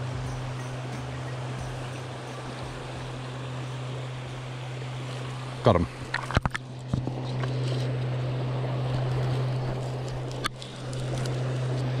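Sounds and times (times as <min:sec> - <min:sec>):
river water over riffle: 0:00.0 - 0:12.0
steady low hum: 0:00.0 - 0:12.0.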